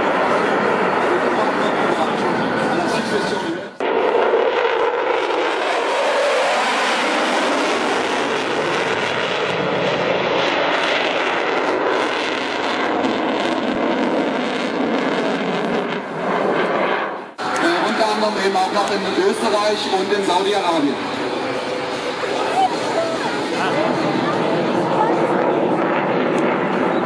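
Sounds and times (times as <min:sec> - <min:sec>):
jet engine roar: 0:00.0 - 0:27.0.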